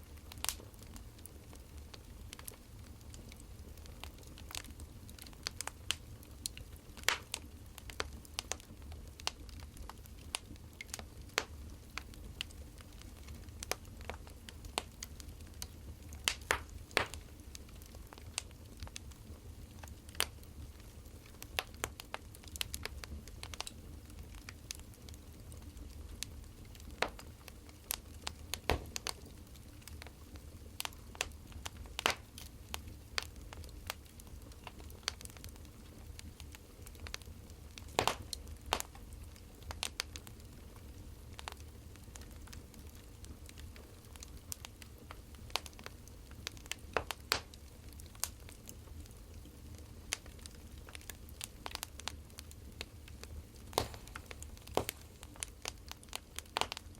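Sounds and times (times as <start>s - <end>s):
firewood crackling and popping: 0.0s - 56.9s.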